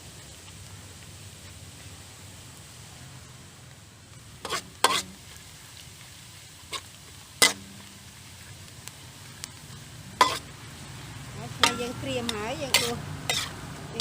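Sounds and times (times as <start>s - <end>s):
ginger sizzling in hot oil: 0.0s - 14.0s.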